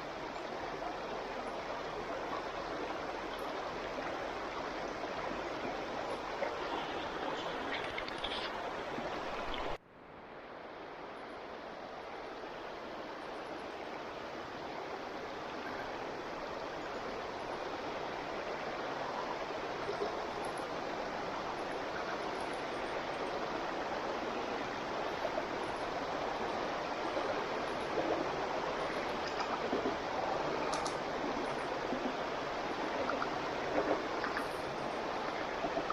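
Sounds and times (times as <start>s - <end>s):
running water rushing: 0.0s - 9.8s, 11.4s - 35.9s.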